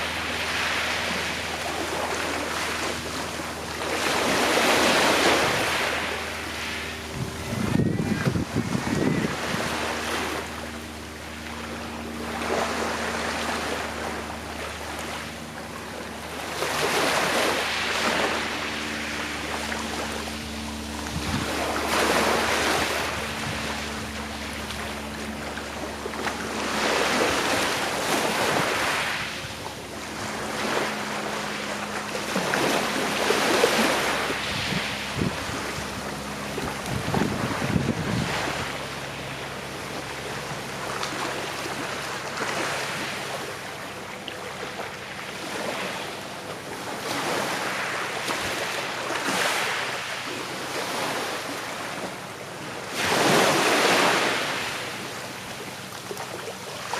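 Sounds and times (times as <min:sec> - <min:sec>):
sea waves washing onto shore: 0:00.0 - 0:56.9.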